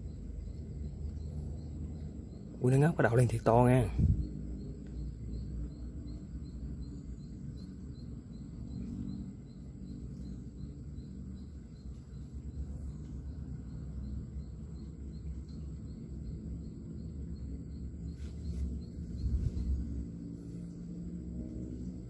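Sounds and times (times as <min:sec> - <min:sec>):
high insect whine: 0:00.0 - 0:22.0
insects chirping: 0:00.0 - 0:22.0
steady low rumble: 0:03.3 - 0:22.0.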